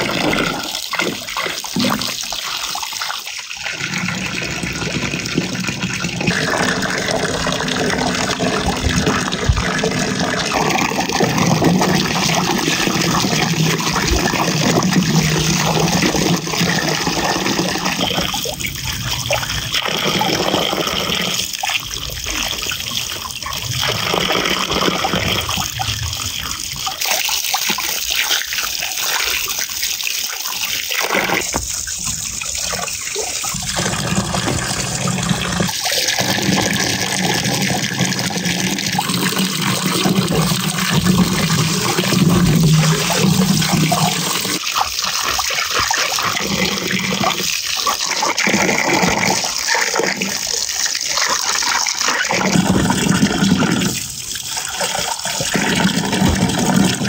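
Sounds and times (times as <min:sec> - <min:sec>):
water splashing in metal basin: 0:00.0 - 0:57.0.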